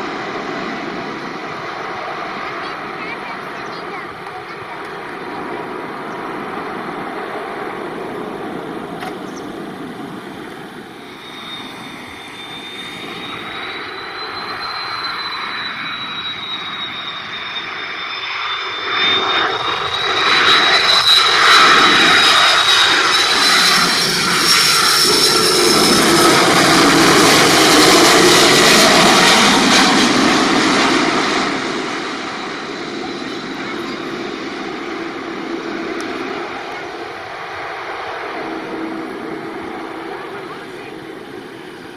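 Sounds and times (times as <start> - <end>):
jet airliner engines passing overhead: 0.0 - 41.9.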